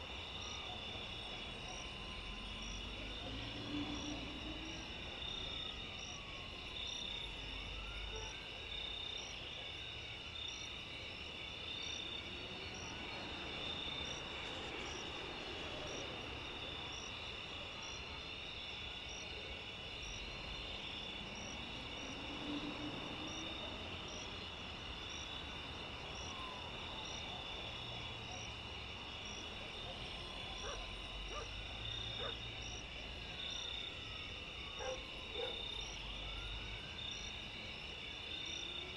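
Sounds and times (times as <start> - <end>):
distant traffic rumble: 0.0 - 9.6, 12.1 - 38.9
crickets and insects trilling: 0.0 - 38.9.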